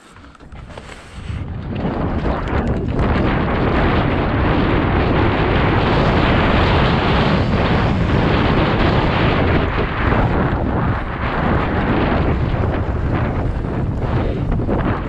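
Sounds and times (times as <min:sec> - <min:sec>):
bike tyre rumble and rattle: 0:00.0 - 0:15.0
wind buffeting microphone: 0:00.0 - 0:15.0.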